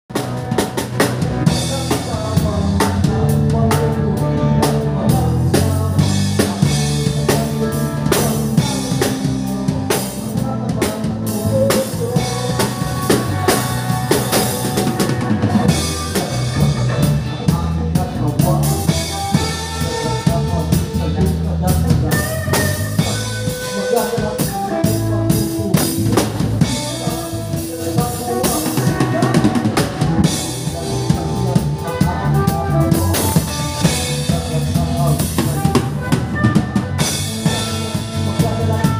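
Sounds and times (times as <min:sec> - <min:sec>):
electric bass guitar: 0:00.0 - 0:38.9
drum kit playing: 0:00.1 - 0:38.9.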